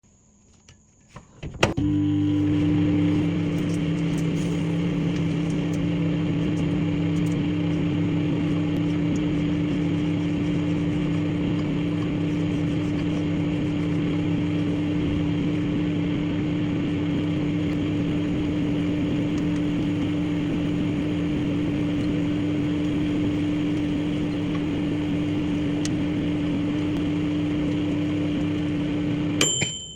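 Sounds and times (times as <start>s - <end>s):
microwave oven humming: 1.4s - 29.9s.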